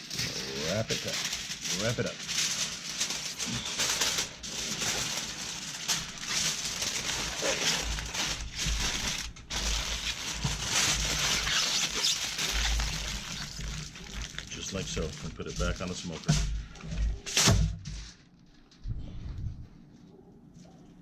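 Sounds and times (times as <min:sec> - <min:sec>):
aluminium foil crinkling: 0:00.0 - 0:18.8.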